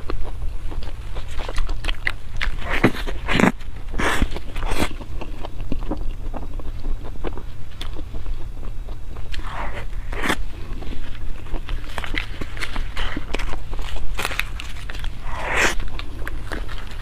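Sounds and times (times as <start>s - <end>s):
chewing with wet smacks: 0.0s - 17.0s.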